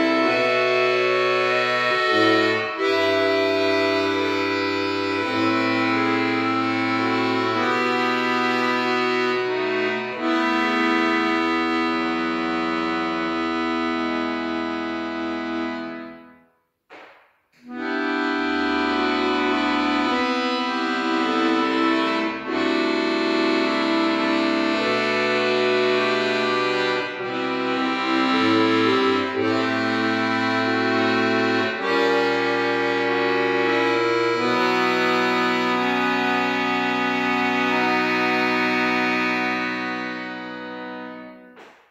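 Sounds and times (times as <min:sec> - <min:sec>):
piano accordion chords: 0:00.0 - 0:16.5, 0:17.6 - 0:41.7.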